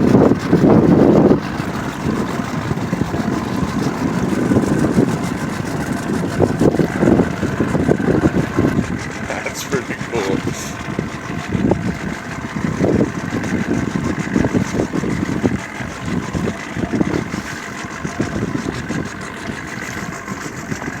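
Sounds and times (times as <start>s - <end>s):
boat motor running: 0.0s - 21.0s.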